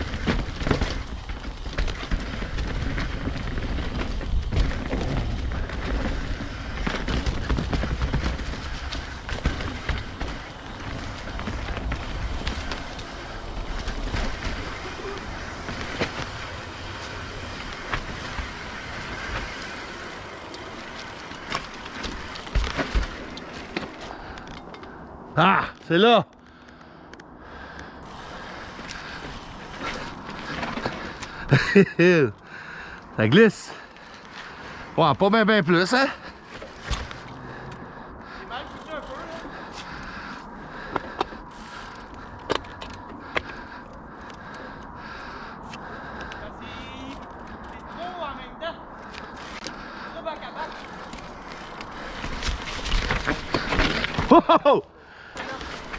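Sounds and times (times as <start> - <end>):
bike clattering and rattling: 0.0 - 25.8, 28.0 - 55.9
rush of tyres and wind: 0.0 - 55.9.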